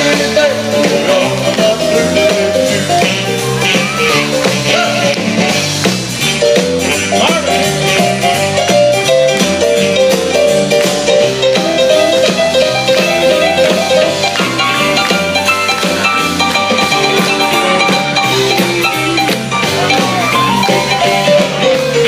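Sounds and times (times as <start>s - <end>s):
live rock and roll band: 0.0s - 22.0s.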